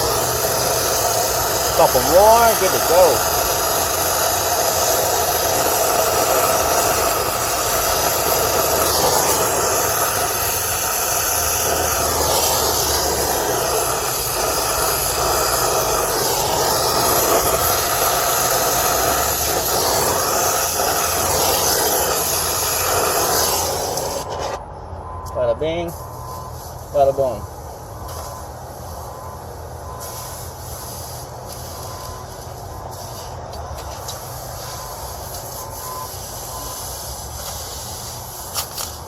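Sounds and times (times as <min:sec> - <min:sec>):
brazing torch hissing: 0:00.0 - 0:24.7, 0:25.8 - 0:39.0.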